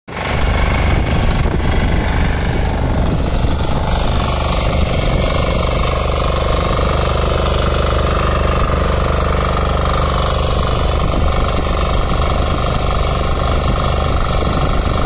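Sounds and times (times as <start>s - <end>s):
diesel engine running: 0.1s - 15.0s
rotor tilling soil: 0.1s - 15.0s.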